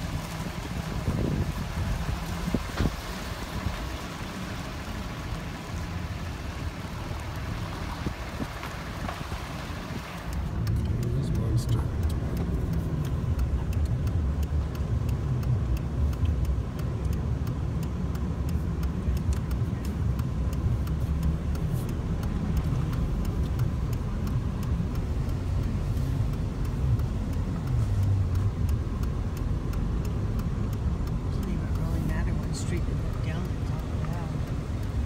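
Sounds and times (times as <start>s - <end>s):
car engine and tyres rumbling: 0.0s - 35.0s
light ticking: 4.0s - 35.0s.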